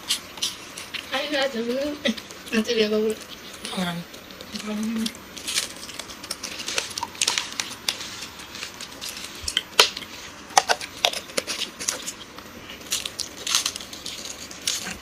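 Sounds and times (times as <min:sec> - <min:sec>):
chewing and crunching wafers: 0:00.0 - 0:01.2, 0:02.1 - 0:15.0.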